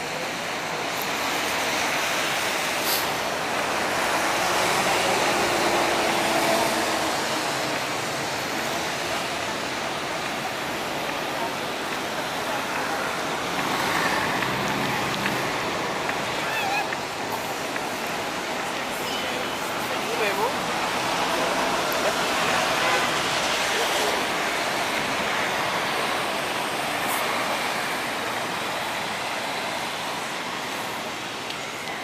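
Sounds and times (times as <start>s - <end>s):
indistinct voices of passers-by: 0.0s - 32.0s
road traffic: 0.0s - 32.0s.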